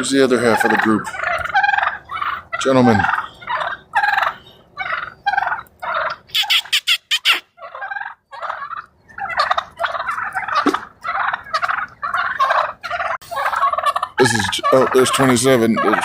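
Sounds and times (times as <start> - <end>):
turkeys gobbling: 0.0 - 16.0.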